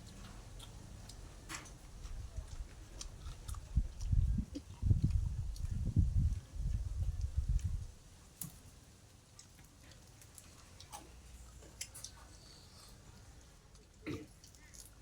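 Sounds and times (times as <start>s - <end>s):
person chewing food: 0.0s - 7.7s, 9.4s - 15.0s.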